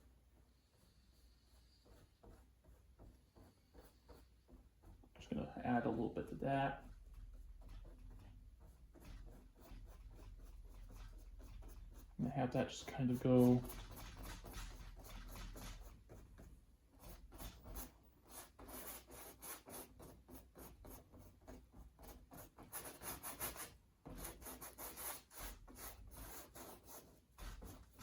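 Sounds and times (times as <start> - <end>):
paint brush rubbing strokes: 0.0 - 28.0.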